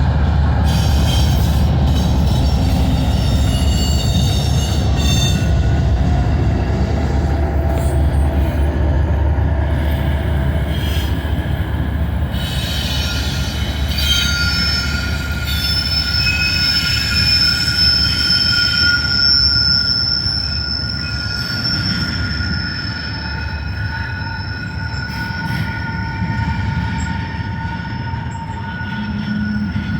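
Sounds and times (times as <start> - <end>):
high wheel squeal: 0.6 - 6.0, 9.7 - 29.9.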